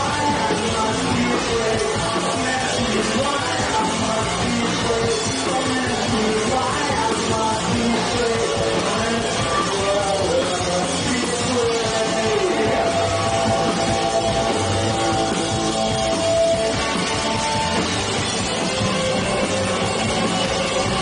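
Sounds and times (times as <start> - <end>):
bass guitar: 0.0 - 21.0
drum kit: 0.0 - 21.0
electric guitars: 0.0 - 21.0.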